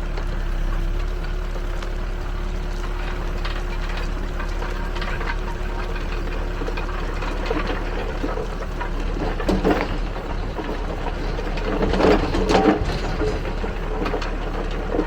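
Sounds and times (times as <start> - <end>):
backhoe engine running: 0.0 - 15.0
rubble rattling in bucket: 0.8 - 15.0.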